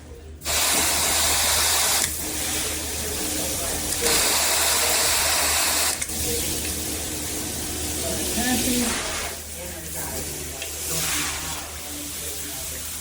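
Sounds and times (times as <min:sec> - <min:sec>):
water spraying from shower head: 0:00.4 - 0:13.0.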